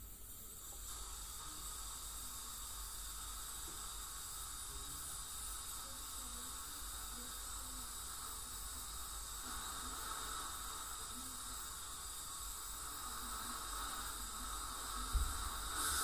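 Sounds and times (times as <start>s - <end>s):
dental scaler high whine: 0.0s - 16.0s
suction hiss: 0.0s - 16.0s.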